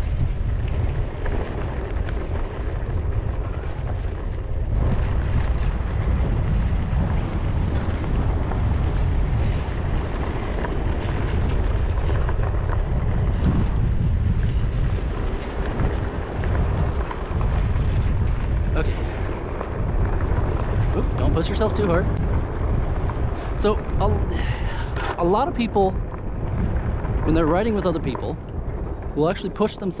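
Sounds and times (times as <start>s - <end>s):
tyres rolling over sand and dirt: 0.0s - 30.0s
wind buffeting microphone: 0.0s - 30.0s.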